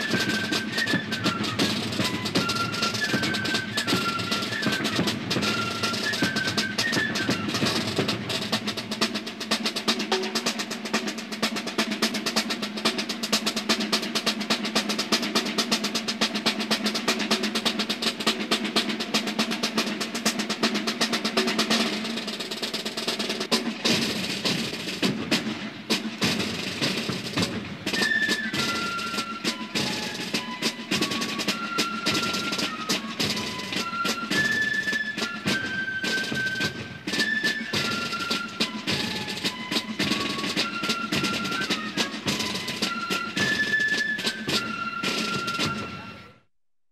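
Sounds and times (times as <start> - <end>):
snare drums rattling cadence: 0.0 - 46.2
high flute melody: 0.0 - 46.5.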